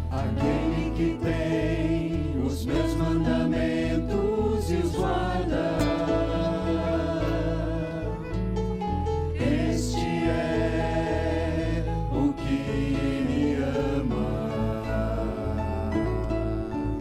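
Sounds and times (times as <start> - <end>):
choir singing held notes: 0.0 - 17.0
sustained bass and accompaniment: 0.0 - 17.0.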